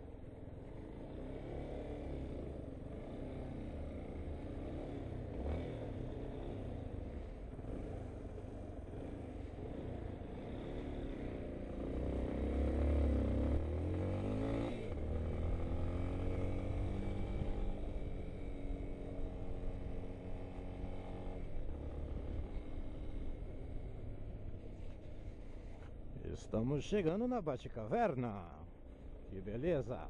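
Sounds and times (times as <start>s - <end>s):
motorcycle engine running: 0.0s - 26.2s
road and wind noise: 0.0s - 30.0s.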